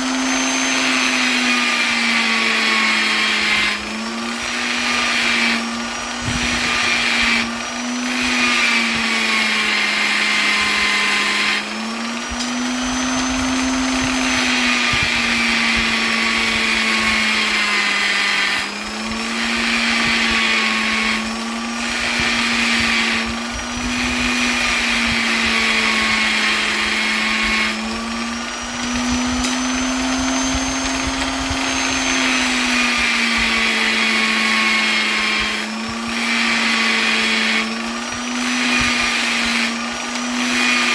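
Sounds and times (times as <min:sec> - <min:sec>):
electric polisher motor whine: 0:00.0 - 0:40.9.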